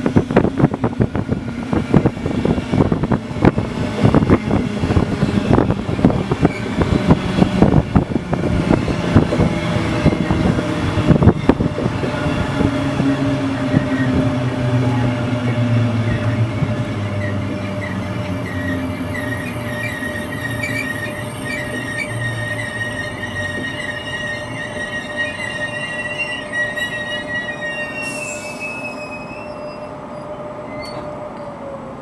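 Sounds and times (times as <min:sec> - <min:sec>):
train coaches rumbling: 0:00.0 - 0:32.0
train wheels squealing on rails: 0:02.0 - 0:32.0.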